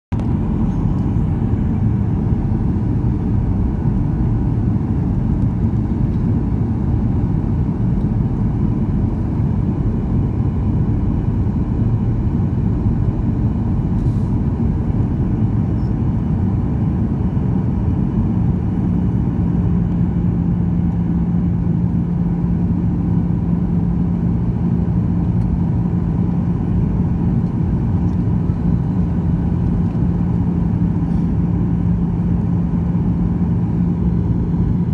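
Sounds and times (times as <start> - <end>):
airplane cabin rumble: 0.1 - 34.9
steady low hum: 0.1 - 34.9.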